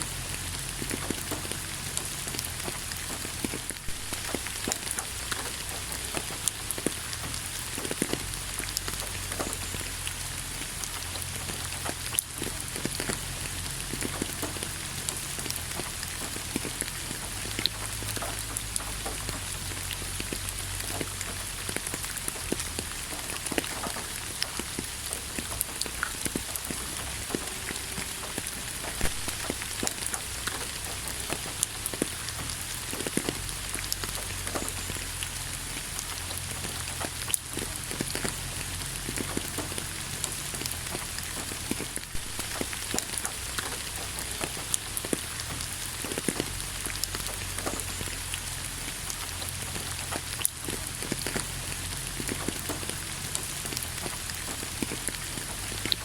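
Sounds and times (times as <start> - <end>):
rain hissing: 0.0 - 56.0
raindrops ticking: 0.0 - 56.0.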